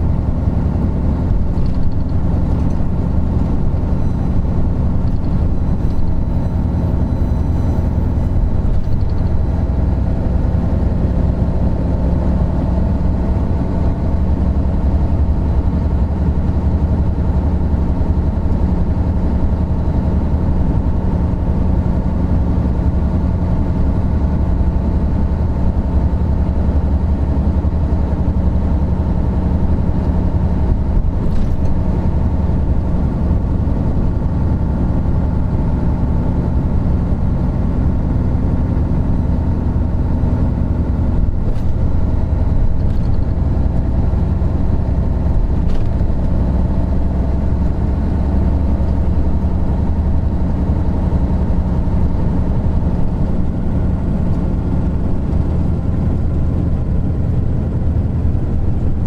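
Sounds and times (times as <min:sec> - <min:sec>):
coach diesel engine droning: 0:00.0 - 0:59.0.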